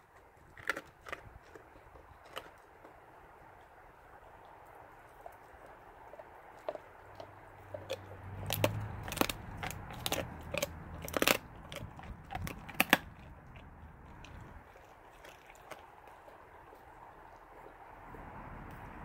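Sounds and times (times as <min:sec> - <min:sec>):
dog crunching bone: 0:00.0 - 0:18.8.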